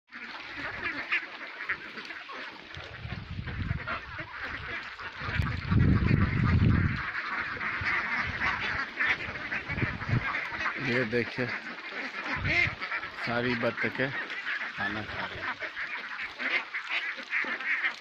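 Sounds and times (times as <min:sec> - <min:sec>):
ducks quacking: 0:00.1 - 0:18.0.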